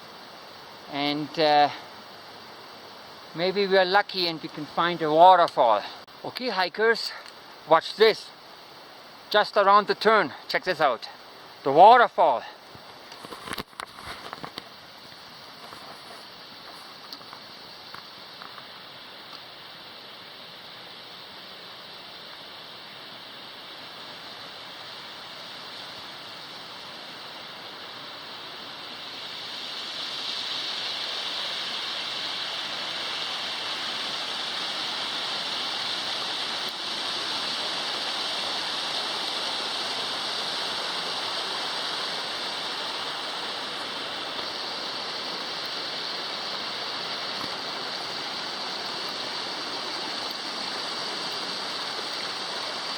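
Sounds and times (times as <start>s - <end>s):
waterfall rushing: 0.0s - 12.4s, 17.4s - 52.9s.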